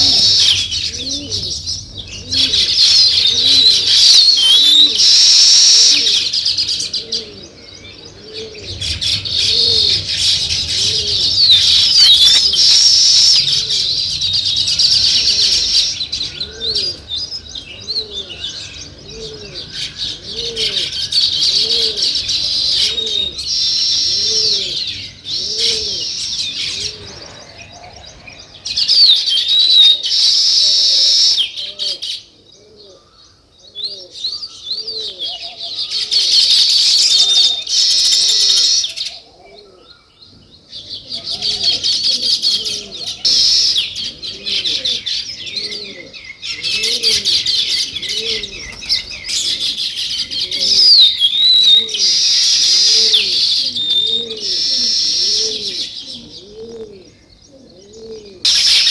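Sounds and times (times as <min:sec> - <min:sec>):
dove cooing: 0:00.0 - 0:58.9
sparrows chirping: 0:00.0 - 0:58.9.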